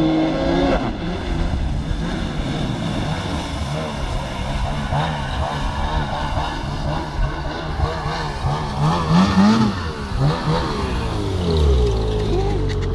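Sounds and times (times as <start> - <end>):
snowmobile engine revving: 0.0 - 12.9.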